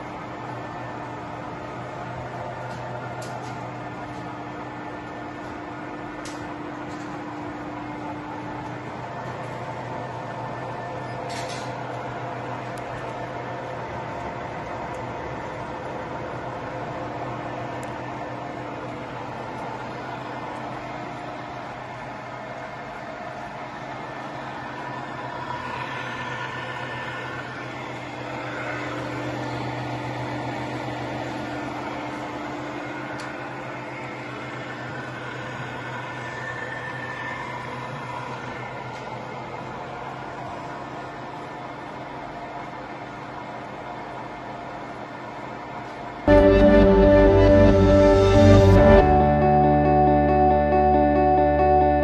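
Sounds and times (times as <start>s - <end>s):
lathe humming and whining: 0.0s - 49.5s.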